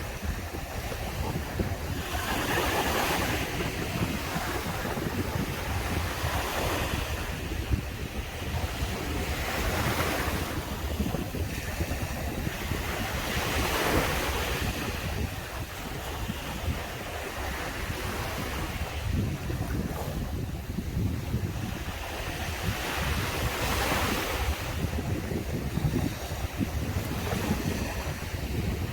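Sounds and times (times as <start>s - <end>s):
sea waves breaking on beach: 0.0s - 28.9s
wind buffeting microphone: 0.0s - 28.9s.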